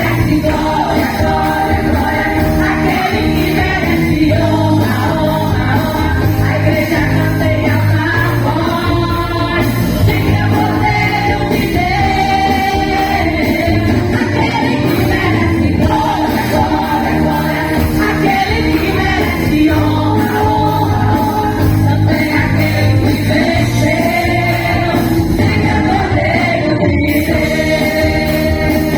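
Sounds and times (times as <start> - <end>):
women's choir singing: 0.0 - 28.9.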